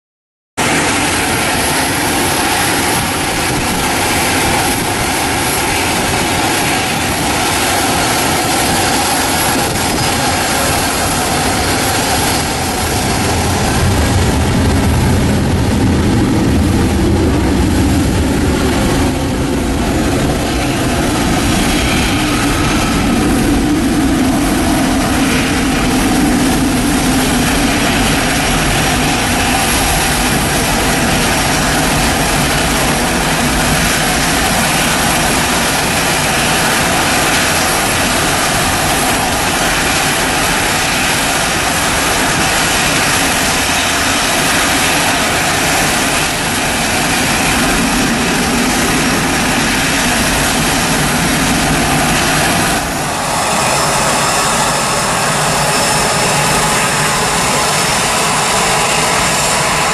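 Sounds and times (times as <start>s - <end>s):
jet engines at takeoff: 0.6s - 59.9s.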